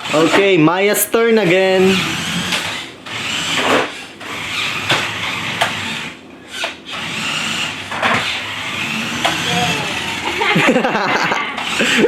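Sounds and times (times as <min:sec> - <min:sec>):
toy electric motor whirring: 0:01.8 - 0:12.0.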